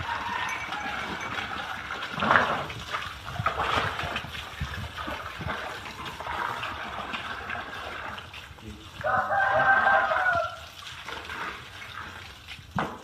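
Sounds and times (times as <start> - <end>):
water splashing and gushing: 0.0 - 13.0.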